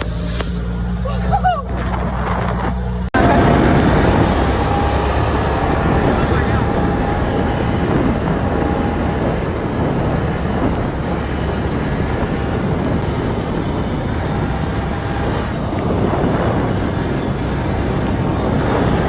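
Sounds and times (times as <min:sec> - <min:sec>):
wind on microphone: 0:01.8 - 0:19.0.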